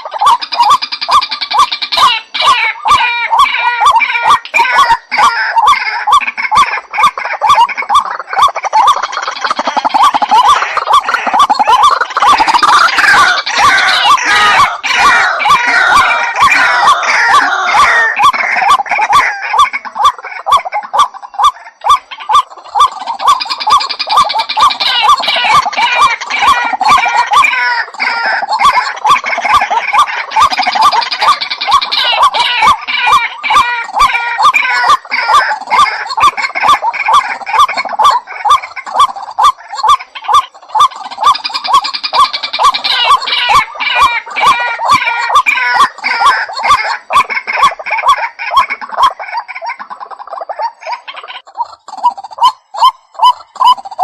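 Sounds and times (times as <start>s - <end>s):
harsh chattering: 0.0s - 54.0s
waterhen calling: 0.0s - 54.0s.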